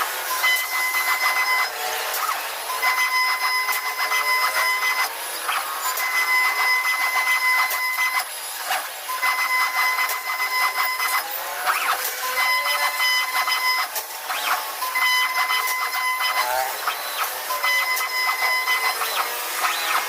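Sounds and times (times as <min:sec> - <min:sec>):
cnc router motors whining: 0:00.0 - 0:20.0.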